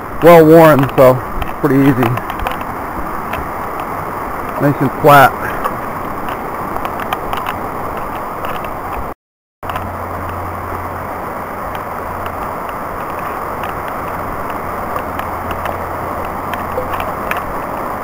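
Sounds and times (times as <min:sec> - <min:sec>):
brook rushing over rocks: 0:00.0 - 0:18.0.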